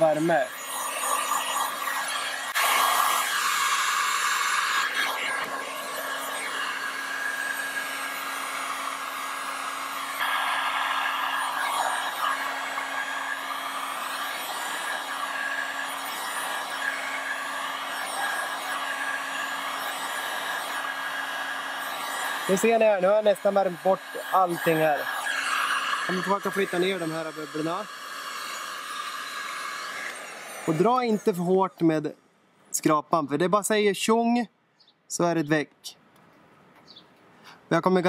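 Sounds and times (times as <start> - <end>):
heat gun blowing air: 0.0 - 31.9.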